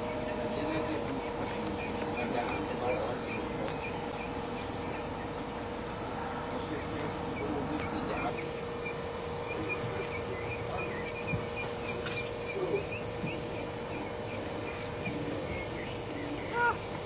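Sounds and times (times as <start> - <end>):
small birds chirping: 0.0 - 17.0
steady hum: 0.0 - 17.0.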